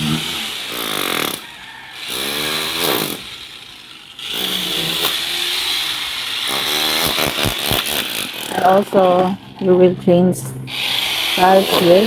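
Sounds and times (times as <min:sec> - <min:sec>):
small motor revving: 0:00.0 - 0:09.6, 0:10.6 - 0:12.0.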